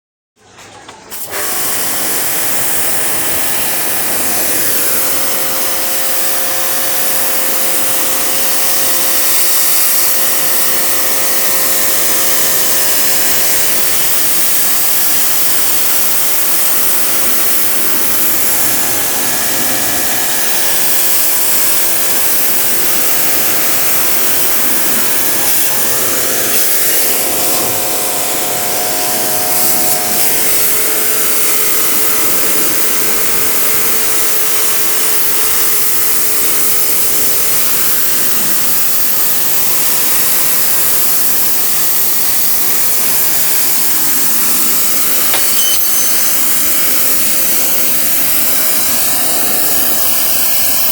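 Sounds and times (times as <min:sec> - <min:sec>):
pressure washer spraying water: 0:01.1 - 0:50.9
pump motor hum: 0:01.1 - 0:50.9.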